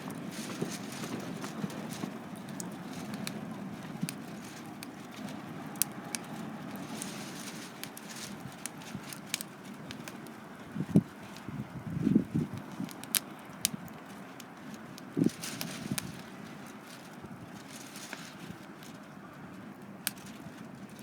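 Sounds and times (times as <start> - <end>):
burning wood crackling and popping: 0.0 - 21.0
campfire flames hissing: 0.0 - 21.0.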